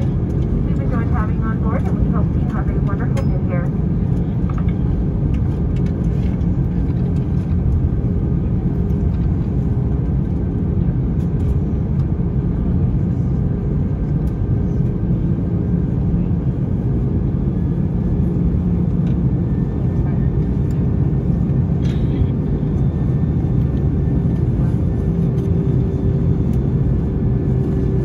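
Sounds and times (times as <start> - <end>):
airplane cabin rumble: 0.0 - 28.0
jet engines idling: 0.0 - 28.0.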